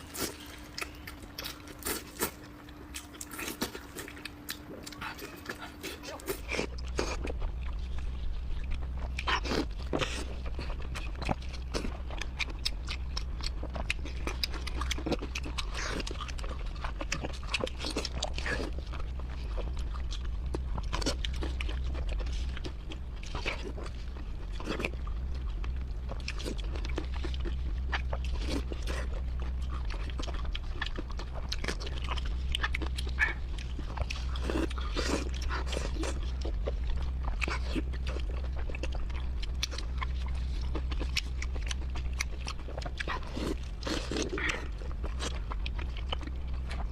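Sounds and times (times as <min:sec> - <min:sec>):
low hum: 0:00.0 - 0:46.9
person chewing food: 0:00.0 - 0:46.9.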